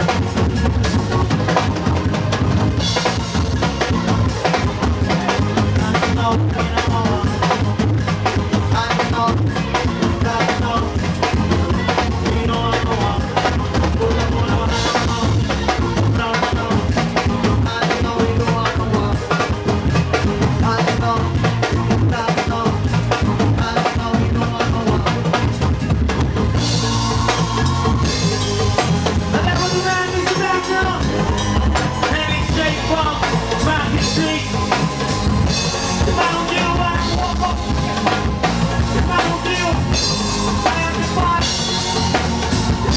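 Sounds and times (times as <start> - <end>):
band music: 0.0 - 42.9
bass line: 0.0 - 42.9
drum kit beat: 0.0 - 42.9.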